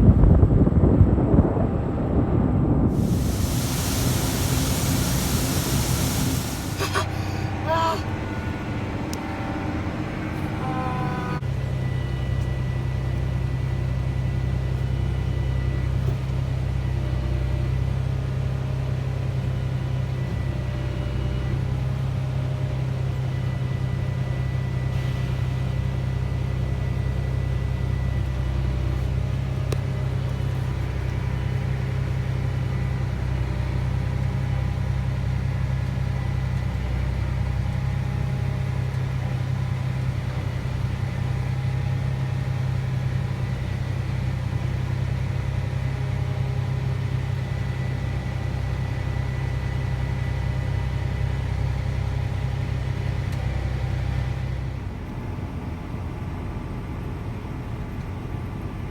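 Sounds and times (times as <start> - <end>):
combine harvester droning: 2.3 - 58.7.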